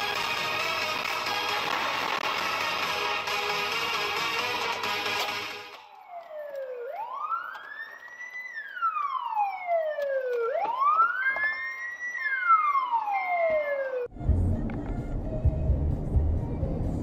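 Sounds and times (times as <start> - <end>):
police siren wailing: 0.0 - 14.9.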